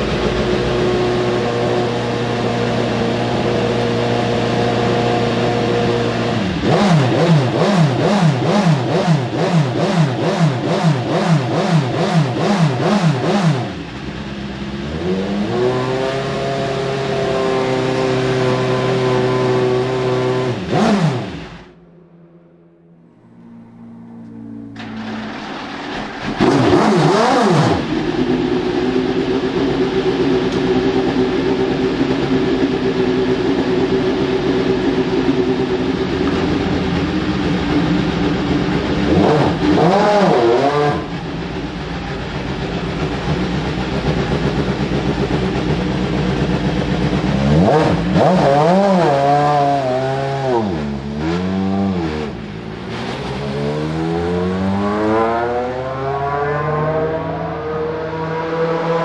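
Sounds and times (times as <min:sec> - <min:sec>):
race car engine idling and revving: 0:00.0 - 0:59.0.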